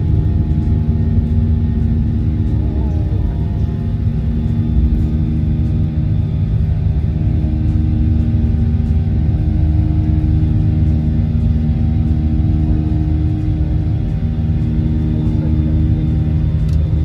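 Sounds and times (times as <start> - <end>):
airliner cabin engine rumble: 0.0 - 17.0
steady engine tones: 0.0 - 17.0.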